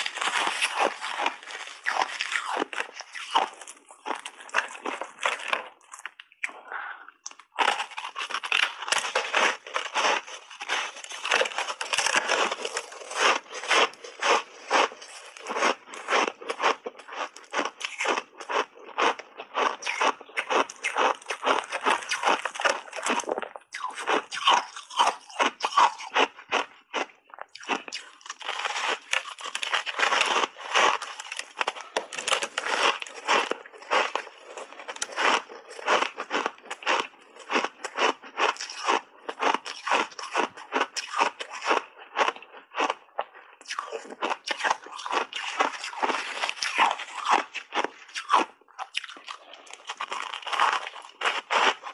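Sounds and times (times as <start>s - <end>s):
ice being chewed with crunches: 0.0s - 51.9s.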